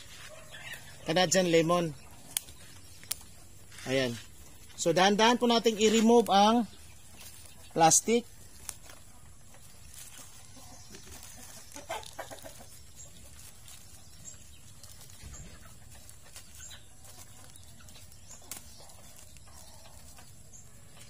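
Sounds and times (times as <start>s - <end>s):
faint clucking bird calls: 0.0s - 21.0s.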